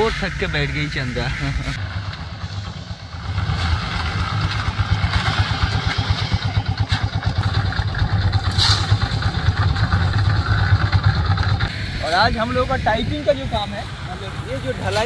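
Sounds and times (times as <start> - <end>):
concrete mixer diesel engine chugging: 0.0 - 15.0.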